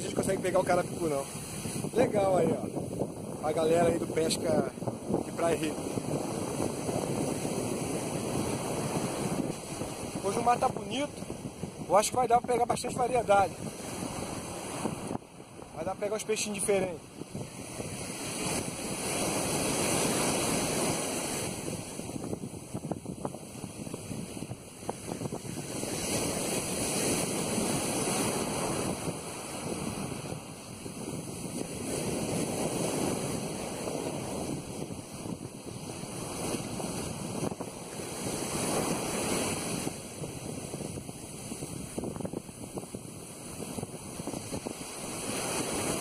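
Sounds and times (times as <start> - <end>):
ocean surf breaking: 0.0 - 46.0
wind buffeting microphone: 0.0 - 46.0.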